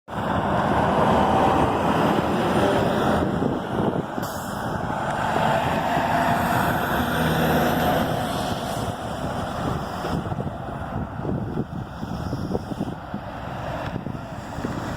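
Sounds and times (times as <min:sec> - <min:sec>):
road traffic noise: 0:00.1 - 0:14.9
truck engine: 0:00.1 - 0:14.9.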